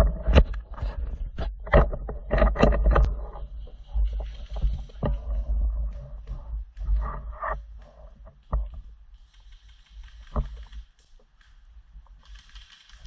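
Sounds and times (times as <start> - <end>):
knocks and rustling: 0.0 - 11.4
steady low rumble: 0.0 - 12.6.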